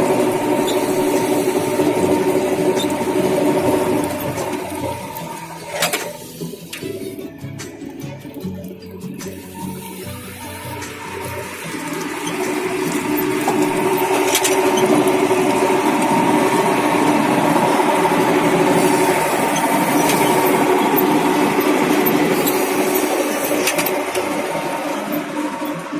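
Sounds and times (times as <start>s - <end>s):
brick-making machine drone: 0.0s - 25.9s.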